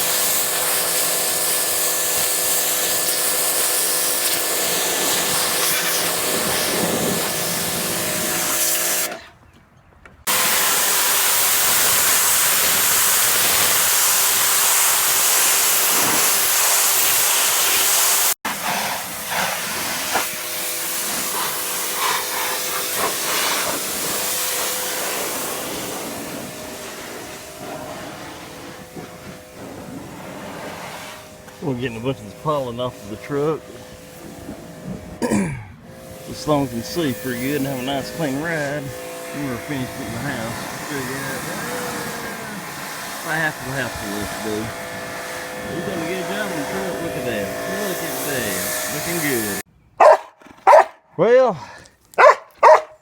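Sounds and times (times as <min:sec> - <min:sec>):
high-pressure water spray hissing: 0:00.0 - 0:09.2, 0:10.3 - 0:35.2, 0:35.9 - 0:49.7
pressure washer motor humming: 0:00.0 - 0:09.2, 0:10.3 - 0:50.8, 0:52.2 - 0:53.0.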